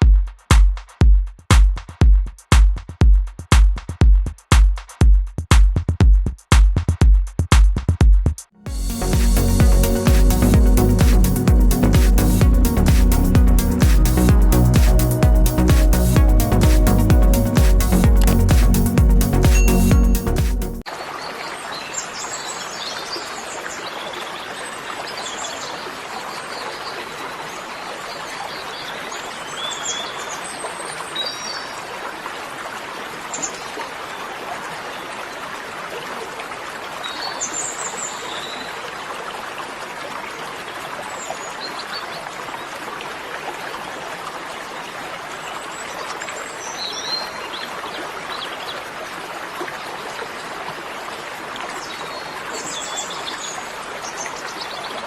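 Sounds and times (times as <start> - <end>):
running water: 8.7 - 55.0.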